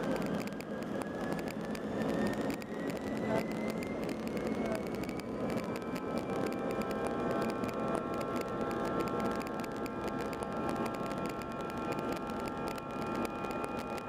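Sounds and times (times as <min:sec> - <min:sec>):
jet engines spooling up: 0:00.0 - 0:14.0.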